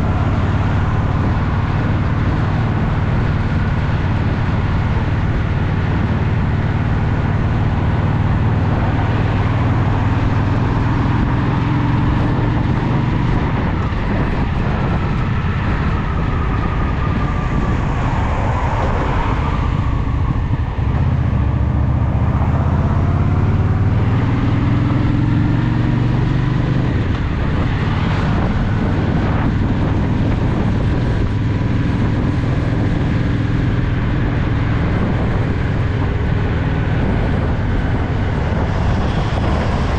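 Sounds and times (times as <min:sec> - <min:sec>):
motorcycle engine running: 0:00.0 - 0:18.2, 0:22.7 - 0:39.9.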